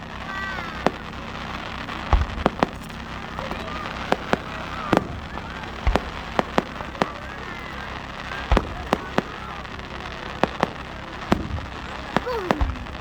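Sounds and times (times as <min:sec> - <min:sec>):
fireworks bursting bangs: 0:00.0 - 0:13.0.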